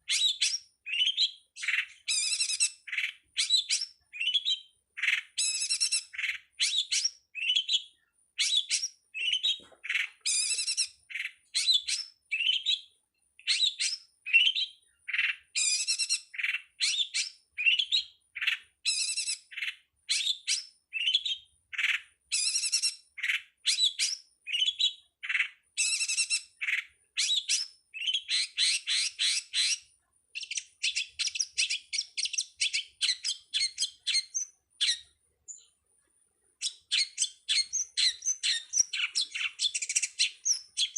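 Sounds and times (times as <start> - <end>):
bird chattering song: 0.0 - 35.8, 36.6 - 40.9.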